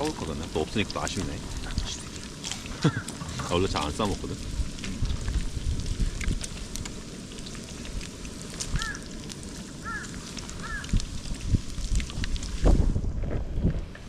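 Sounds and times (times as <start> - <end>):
crackling clicks: 0.0 - 12.8
wind rumbling on microphone: 0.0 - 14.0.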